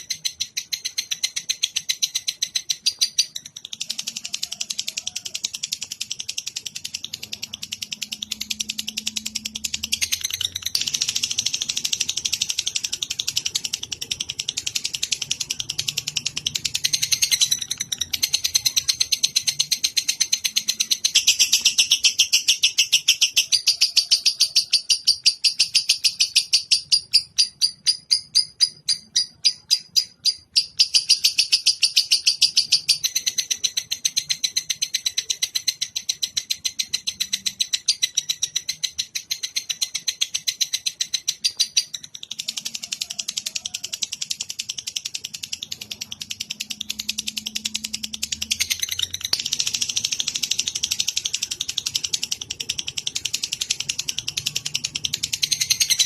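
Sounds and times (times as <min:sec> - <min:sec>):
songbird high-pitched trills: 0:00.0 - 0:56.0.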